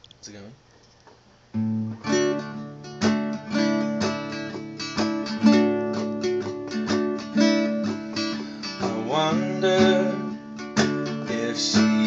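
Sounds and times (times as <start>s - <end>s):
acoustic guitar strumming: 1.5s - 12.0s.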